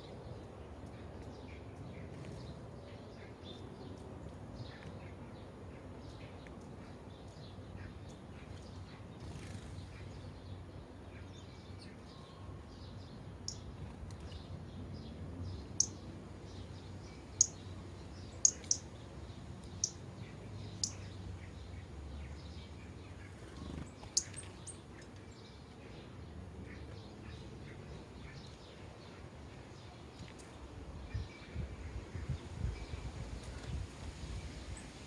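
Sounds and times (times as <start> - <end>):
sparrows chirping: 0.0 - 35.0.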